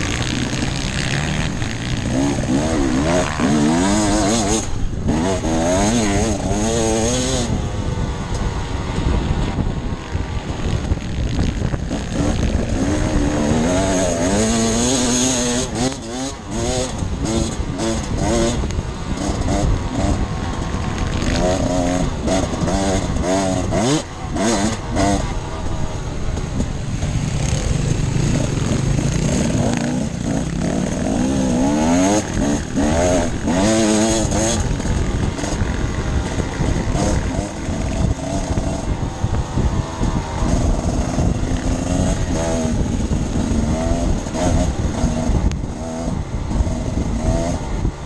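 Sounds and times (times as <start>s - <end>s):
dirt bike engine revving: 0.0s - 48.0s
wind and terrain noise: 0.0s - 48.0s.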